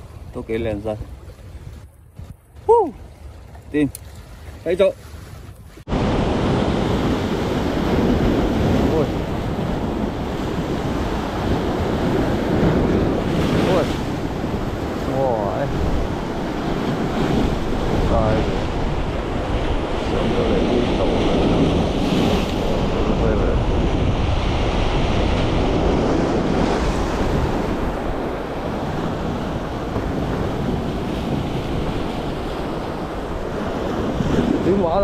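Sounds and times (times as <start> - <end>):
wind buffeting microphone: 5.2 - 35.0.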